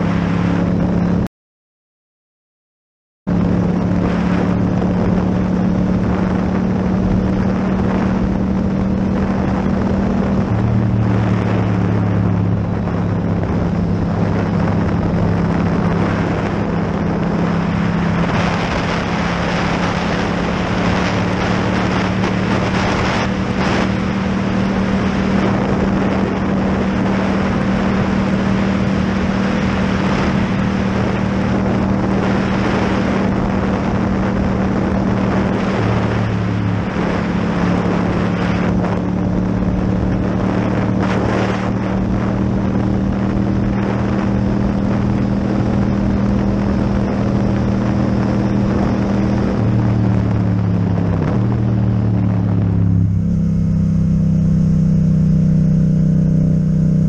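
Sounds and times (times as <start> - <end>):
wind noise on microphone: 0.0 - 1.3, 3.3 - 57.0
motorcycle engine running: 3.3 - 57.0.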